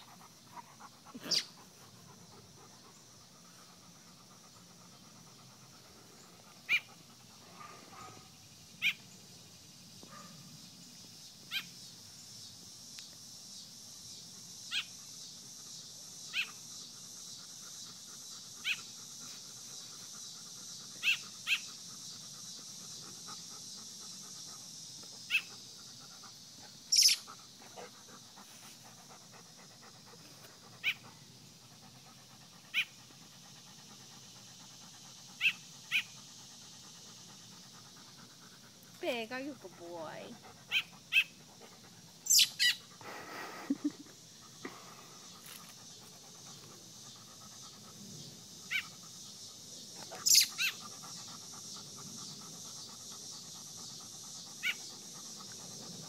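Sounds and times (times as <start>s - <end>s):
dog panting softly: 0.0s - 8.2s, 16.5s - 56.0s.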